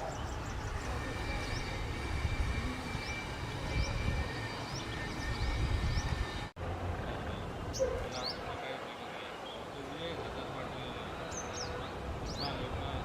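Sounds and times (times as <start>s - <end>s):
small birds chirping: 0.0s - 6.4s, 7.1s - 10.2s, 10.8s - 13.0s.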